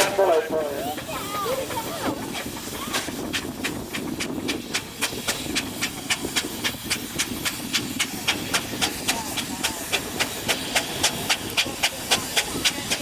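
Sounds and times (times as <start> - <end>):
steam engine exhaust chuffing: 0.0 - 13.0
steam hissing: 0.0 - 13.0.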